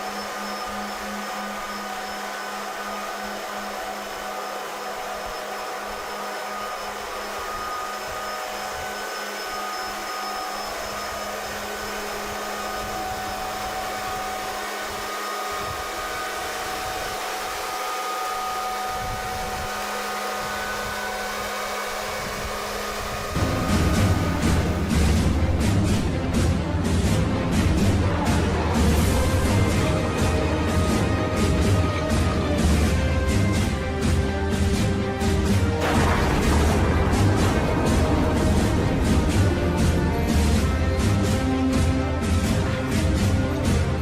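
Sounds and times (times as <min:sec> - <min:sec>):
high whining tones: 0:00.0 - 0:44.0
low hum: 0:00.0 - 0:44.0
machinery whirring: 0:00.0 - 0:44.0.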